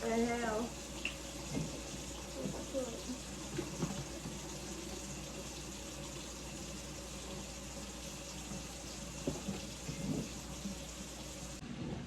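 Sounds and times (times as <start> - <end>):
water running from a tap: 0.0 - 11.6.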